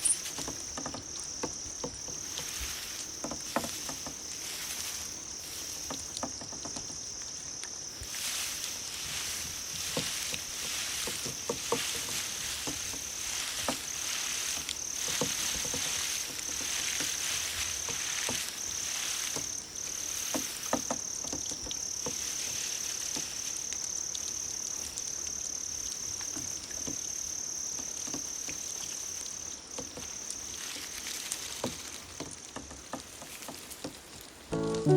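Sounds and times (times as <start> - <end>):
water ticks and patters: 0.0 - 34.5
crickets trilling: 0.0 - 34.9.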